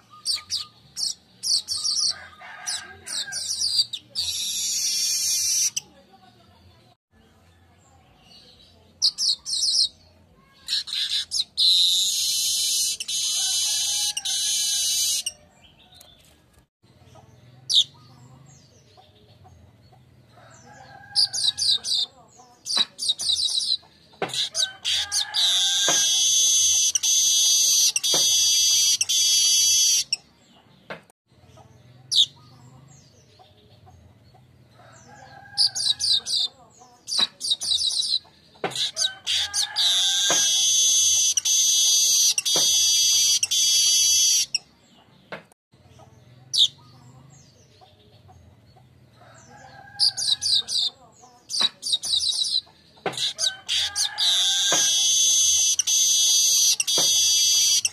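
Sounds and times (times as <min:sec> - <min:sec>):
bird chirping and buzzing trill: 0:00.0 - 0:05.9, 0:09.0 - 0:16.2, 0:17.0 - 0:30.4, 0:31.4 - 0:44.8, 0:45.8 - 0:57.9.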